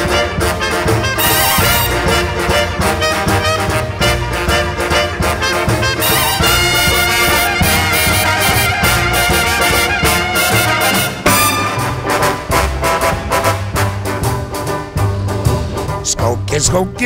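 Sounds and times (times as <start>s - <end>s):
upbeat swing music with brass: 0.0s - 17.0s.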